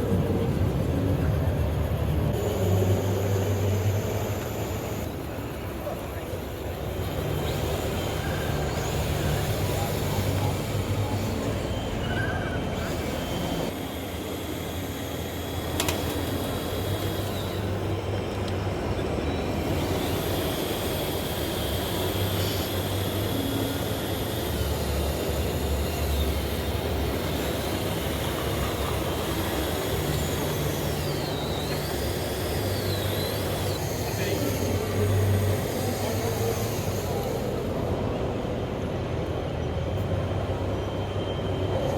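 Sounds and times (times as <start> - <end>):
low motor hum: 6.9 - 41.9.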